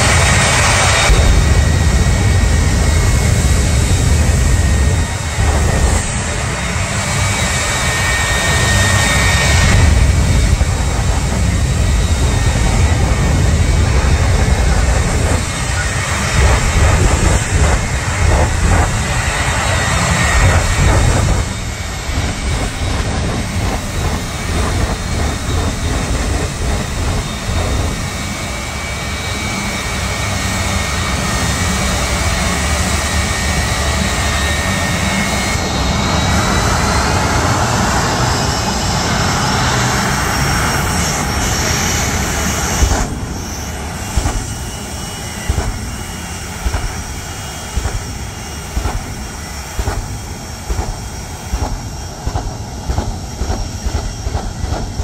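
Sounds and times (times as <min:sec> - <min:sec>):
jet engine whine rising: 0:00.0 - 0:55.0
jet engines roaring: 0:00.0 - 0:55.0.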